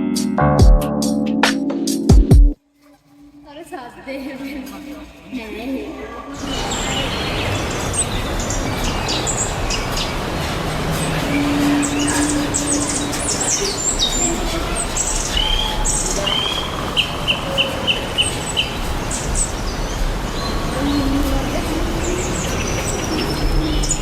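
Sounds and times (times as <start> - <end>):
birds chirping: 3.5 - 24.0.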